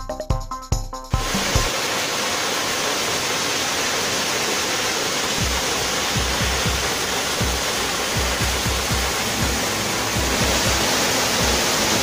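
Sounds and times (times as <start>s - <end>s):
waterfall rushing: 1.2s - 12.0s.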